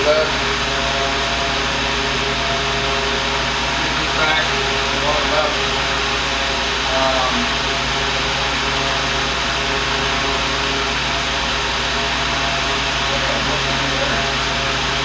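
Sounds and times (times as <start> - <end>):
fan whooshing: 0.0 - 15.0
low electrical hum: 0.0 - 15.0.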